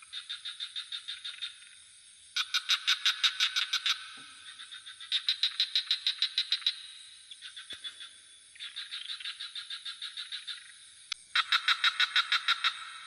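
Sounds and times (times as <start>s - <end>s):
frogs calling in pulsed trains: 0.0s - 13.0s
high-pitched insect drone: 0.0s - 13.0s.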